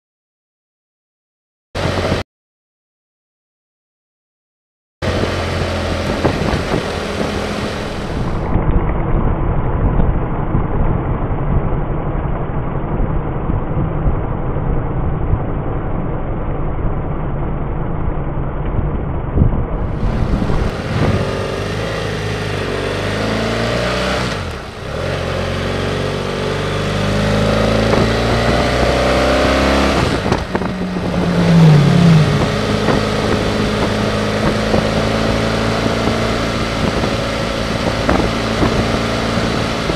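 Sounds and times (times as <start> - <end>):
motorcycle engine accelerating: 1.8 - 2.2, 5.0 - 39.9
wind rush: 1.8 - 2.2, 5.0 - 39.9.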